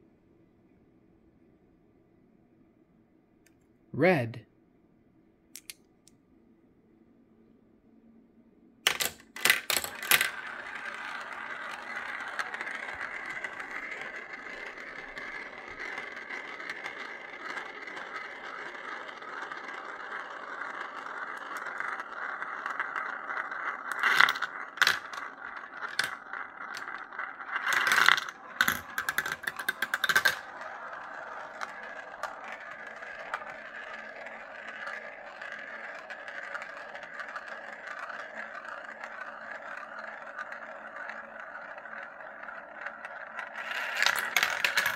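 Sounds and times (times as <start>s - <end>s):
marbles clacking on plastic track: 8.9s - 44.9s
marbles rolling in plastic bowls: 8.9s - 44.9s.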